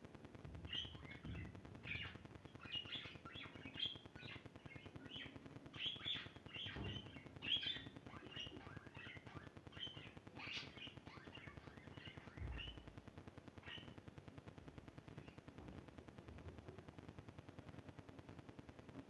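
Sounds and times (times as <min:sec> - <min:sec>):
small birds chirping: 0:00.5 - 0:14.1, 0:15.0 - 0:16.9.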